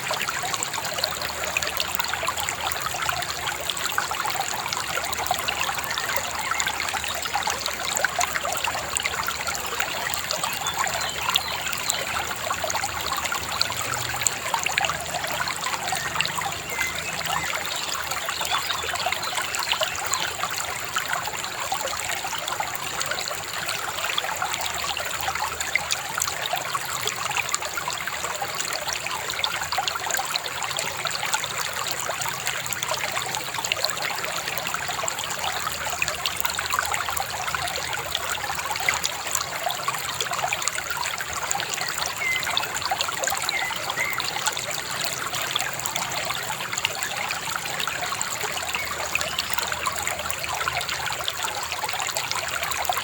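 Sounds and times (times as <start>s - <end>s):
river babbling over stones: 0.0s - 53.0s.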